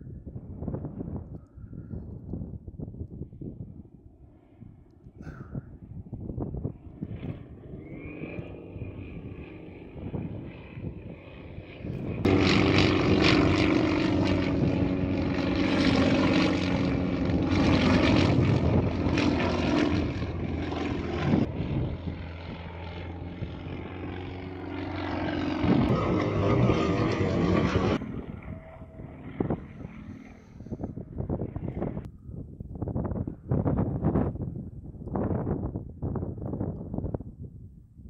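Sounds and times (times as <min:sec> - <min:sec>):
propeller plane engine in flight: 0:00.0 - 0:38.0.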